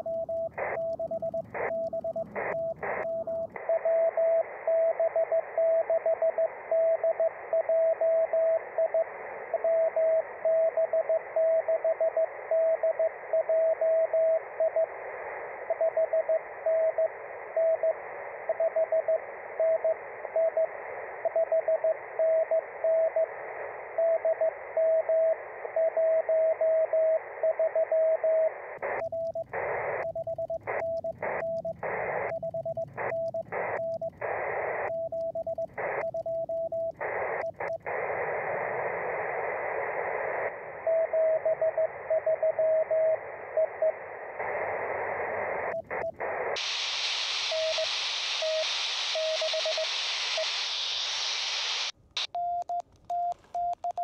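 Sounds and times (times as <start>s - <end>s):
radio receiver hiss: 0.0s - 52.4s.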